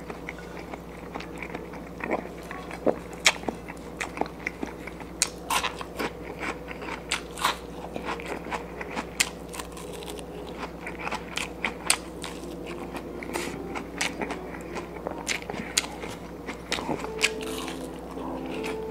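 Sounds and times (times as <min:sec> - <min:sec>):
faint steady hum: 0:00.0 - 0:18.9
person chewing crunchy food: 0:00.0 - 0:18.9.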